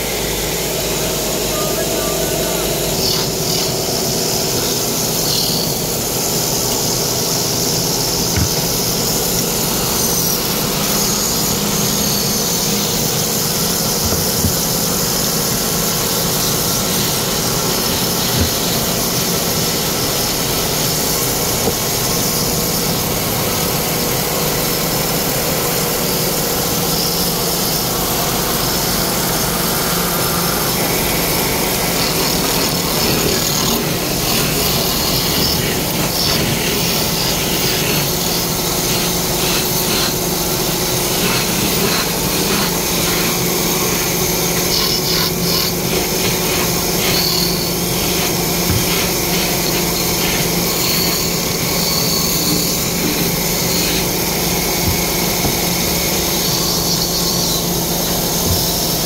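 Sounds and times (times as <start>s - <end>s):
lathe drive hum: 0.0s - 59.0s
chisel cutting wood: 0.6s - 23.0s, 29.2s - 59.0s.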